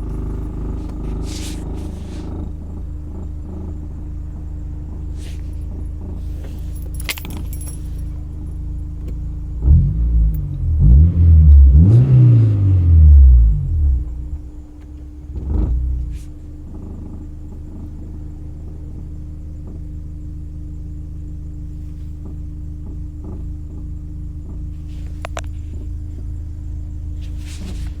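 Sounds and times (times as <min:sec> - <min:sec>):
car engine idling with low rumble: 0:00.0 - 0:28.0.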